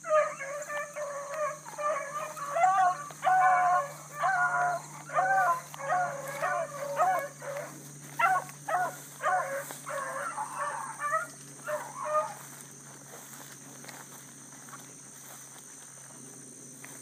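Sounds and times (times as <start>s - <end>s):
hounds baying: 0.0s - 14.8s.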